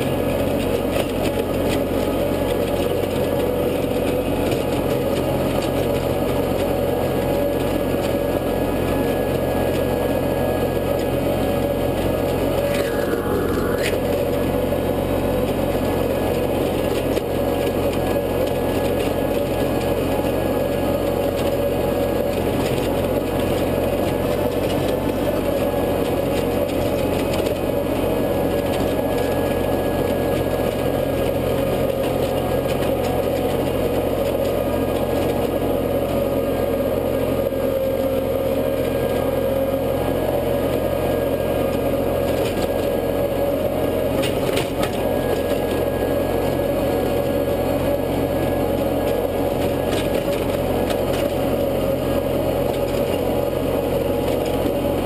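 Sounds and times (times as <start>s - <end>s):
rotary tiller churning soil: 0.0s - 55.0s
tractor engine running: 0.0s - 55.0s.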